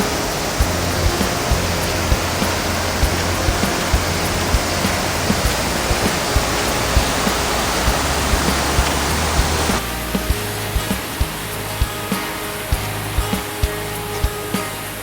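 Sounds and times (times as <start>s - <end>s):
background music with steady beat: 0.0s - 15.0s
waterfall rushing: 0.0s - 15.0s.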